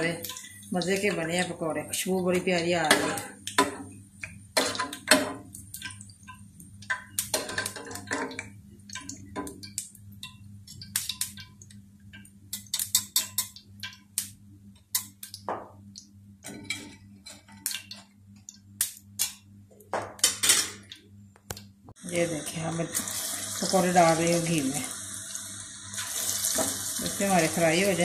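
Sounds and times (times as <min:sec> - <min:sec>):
utensils clicking on frying pan: 0:00.0 - 0:19.5, 0:22.9 - 0:28.0.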